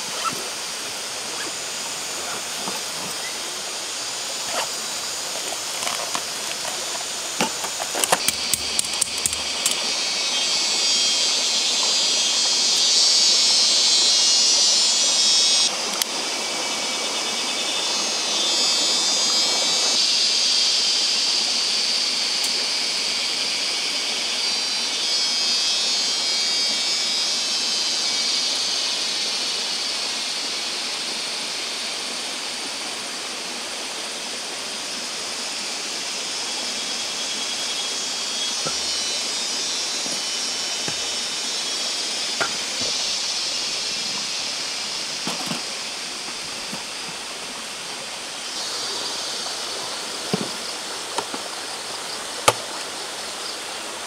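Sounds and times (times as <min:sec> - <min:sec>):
stream water flowing: 0:00.0 - 0:14.5, 0:15.7 - 0:54.0
insects buzzing: 0:00.0 - 0:54.0.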